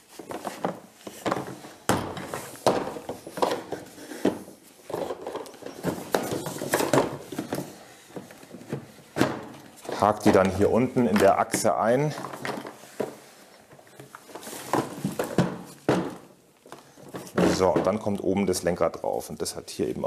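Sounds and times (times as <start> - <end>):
hard plastic knocking and scraping: 0.2 - 18.2.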